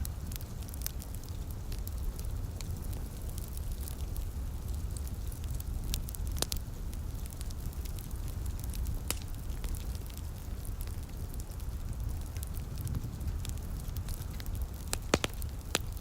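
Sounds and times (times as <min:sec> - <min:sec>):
low fire rumble: 0:00.0 - 0:16.0
sharp fire pops: 0:00.0 - 0:16.0
wood fire crackling: 0:00.0 - 0:16.0.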